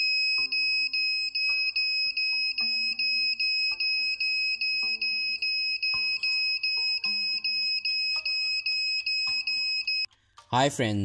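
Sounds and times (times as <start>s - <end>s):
smoke alarm buzzer beeping: 0.0s - 10.1s.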